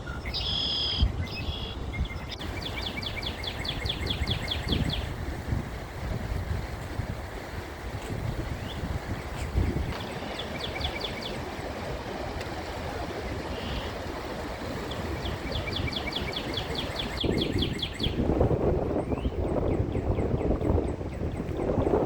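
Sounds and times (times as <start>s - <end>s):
songbird singing: 0.0s - 5.2s, 8.0s - 22.0s.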